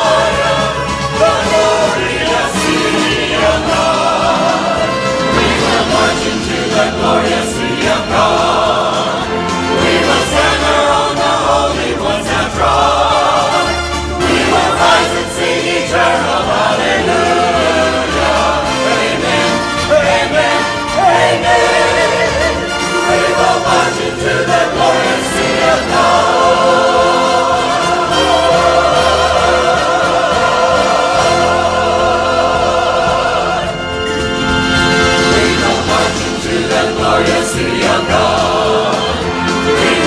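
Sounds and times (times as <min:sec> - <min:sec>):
choir singing a hymn: 0:00.0 - 0:40.0
musical accompaniment: 0:00.0 - 0:40.0.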